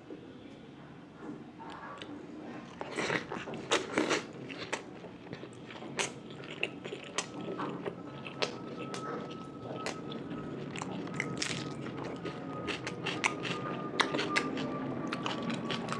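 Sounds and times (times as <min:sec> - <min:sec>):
person chewing food: 0:02.0 - 0:15.9.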